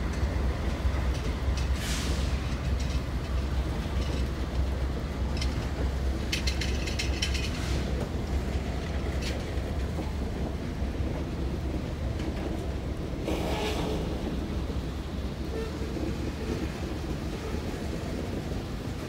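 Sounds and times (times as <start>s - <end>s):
freight train wheels rumbling: 0.0s - 19.0s
wheels clanking over rail joints: 0.0s - 19.0s.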